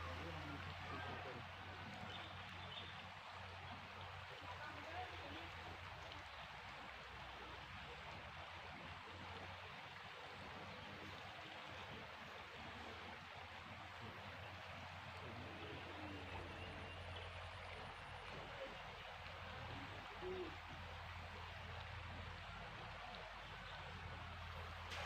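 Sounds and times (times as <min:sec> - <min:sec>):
flowing water: 0:00.0 - 0:25.0.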